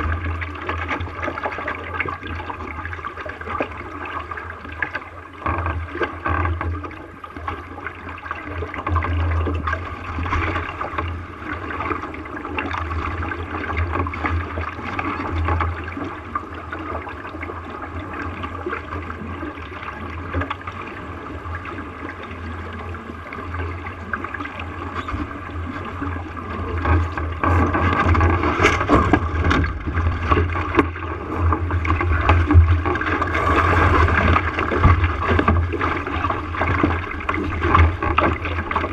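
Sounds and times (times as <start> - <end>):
water splashing along a hull: 0.0 - 38.9.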